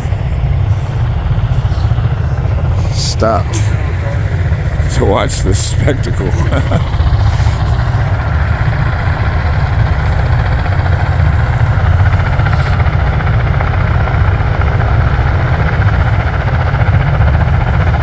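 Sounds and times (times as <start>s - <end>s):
aircraft engines idling: 0.0s - 18.0s.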